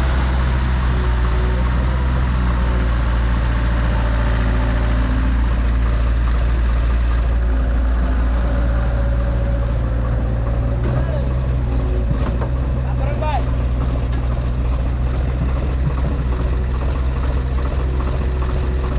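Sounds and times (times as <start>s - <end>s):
heavy diesel engine droning: 0.0s - 18.9s.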